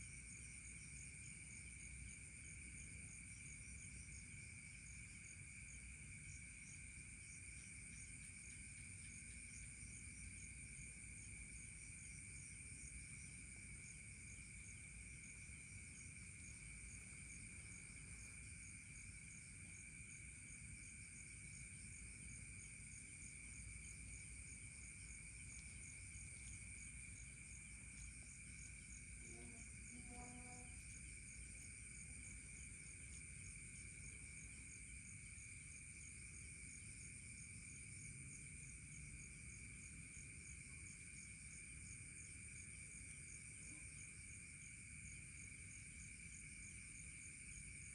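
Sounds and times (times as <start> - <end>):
crickets chirping: 0.0 - 47.9
fast pulsing insect trill: 0.0 - 47.9.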